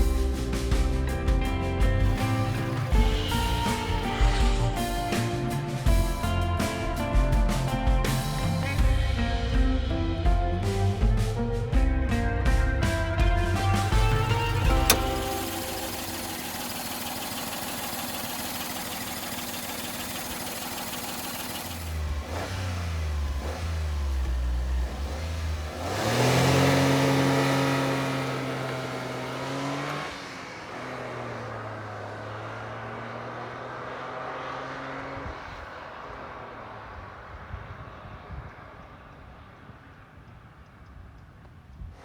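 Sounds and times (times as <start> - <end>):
car engine accelerating hard: 0.0 - 38.3.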